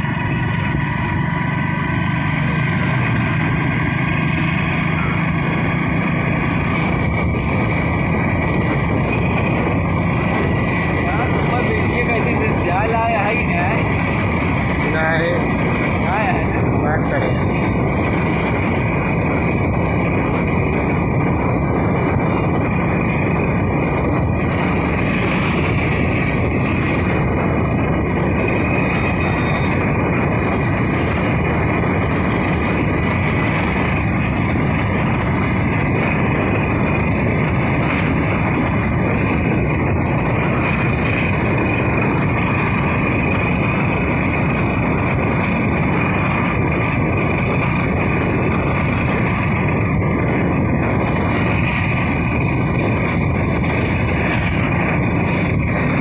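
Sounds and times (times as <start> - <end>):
vehicle cruising on highway: 0.0 - 56.0.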